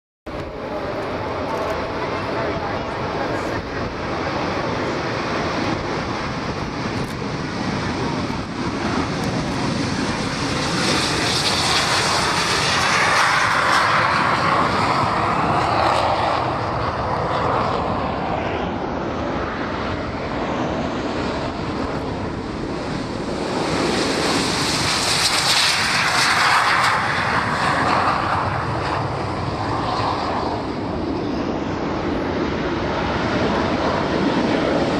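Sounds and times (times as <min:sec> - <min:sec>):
jet engines roaring on takeoff: 0:00.3 - 0:34.9.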